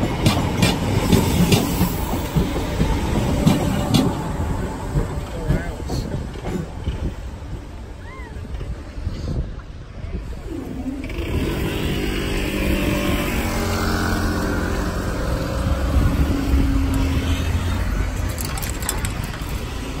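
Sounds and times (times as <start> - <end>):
road and rail traffic rumble: 0.0 - 20.0.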